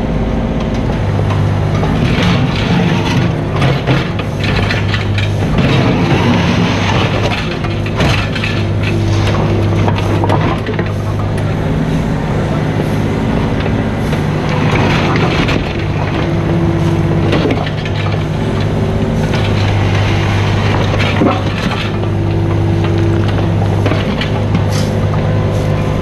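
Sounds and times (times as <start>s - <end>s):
excavator diesel engine running: 0.0s - 26.0s
knocks and scrapes: 0.9s - 26.0s.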